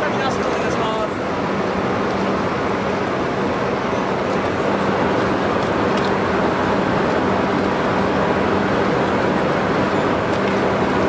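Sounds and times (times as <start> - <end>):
constant rushing noise: 0.0 - 11.0
electric locomotive hum: 0.0 - 11.0.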